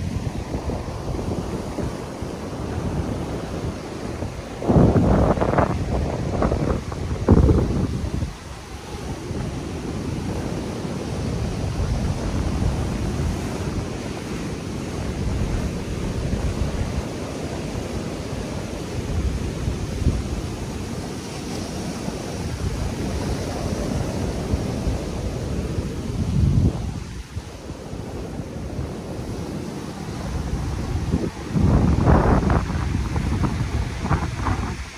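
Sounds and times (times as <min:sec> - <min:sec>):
ocean surf breaking on rocks: 0:00.0 - 0:34.9
wind buffeting microphone: 0:00.0 - 0:34.9.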